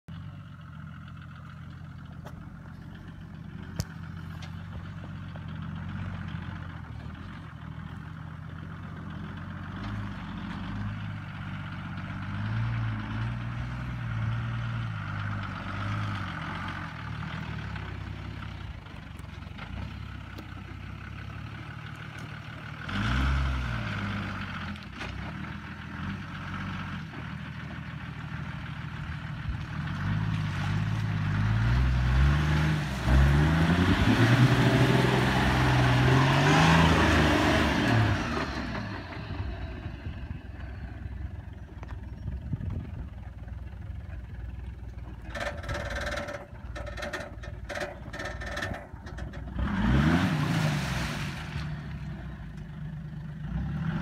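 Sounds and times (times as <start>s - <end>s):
diesel truck engine low revs: 2.0s - 54.0s.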